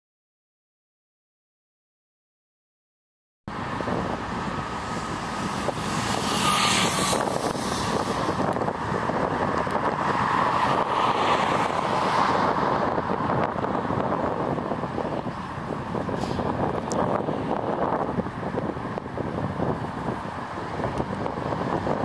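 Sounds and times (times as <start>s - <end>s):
wind noise on microphone: 3.5s - 22.0s.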